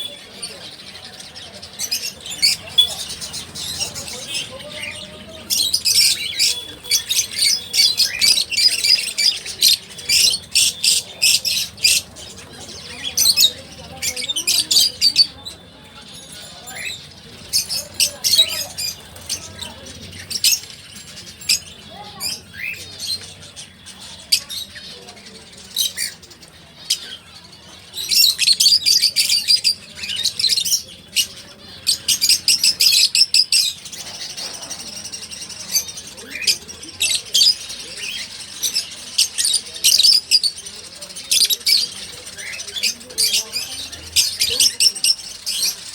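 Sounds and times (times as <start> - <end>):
small birds chirping and squawking: 0.0 - 45.9.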